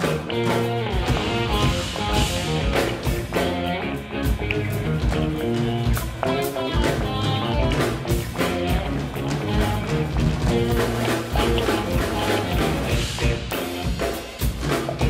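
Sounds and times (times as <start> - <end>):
drum kit: 0.0 - 15.0
electric bass: 0.0 - 15.0
electric guitar: 0.0 - 15.0.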